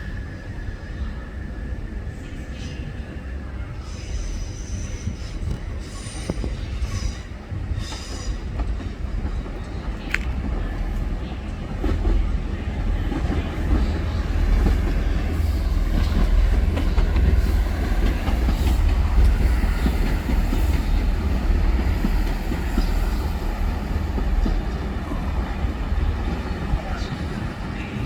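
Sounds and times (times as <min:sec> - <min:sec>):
diesel train rumbling: 0:00.0 - 0:28.0.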